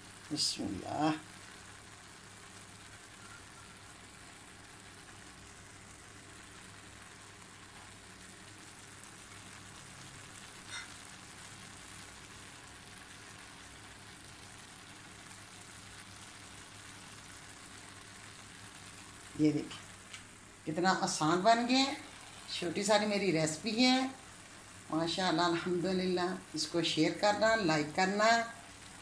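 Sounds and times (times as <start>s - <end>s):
rice sizzling in a pan: 0.0s - 29.0s.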